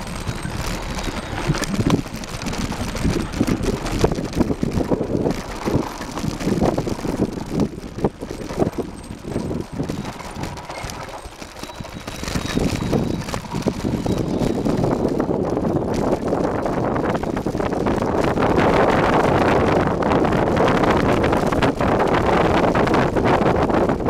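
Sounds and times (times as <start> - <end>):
bike rattling over rough ground: 0.0 - 24.0
wind buffeting microphone: 0.0 - 24.0.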